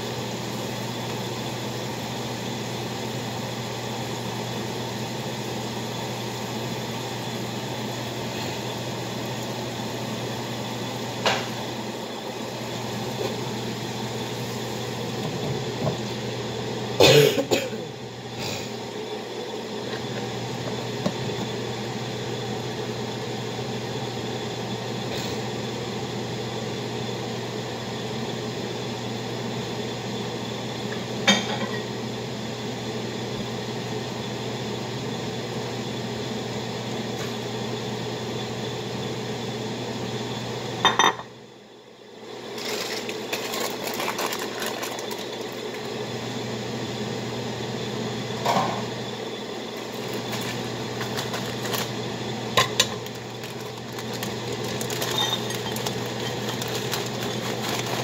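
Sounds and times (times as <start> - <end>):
kitchen appliance humming: 0.0 - 58.0.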